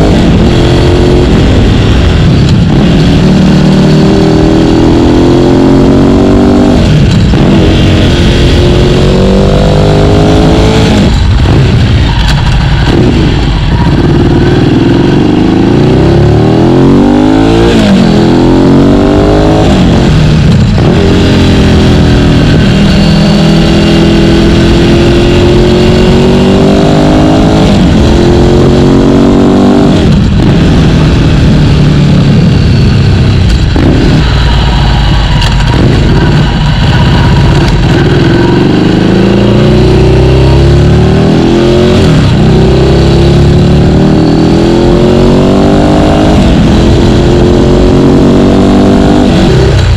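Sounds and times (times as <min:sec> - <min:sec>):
motorcycle engine revving: 0:00.0 - 0:49.9
road and wind noise: 0:00.0 - 0:49.9.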